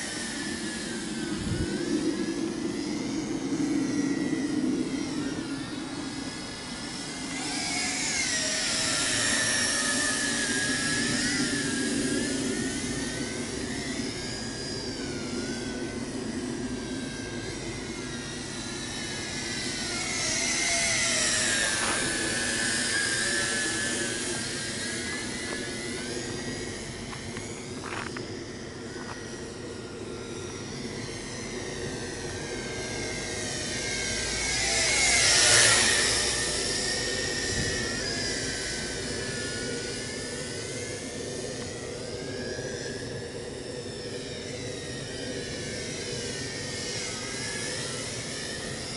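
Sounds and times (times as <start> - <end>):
drone propellers whining: 0.0 - 48.9.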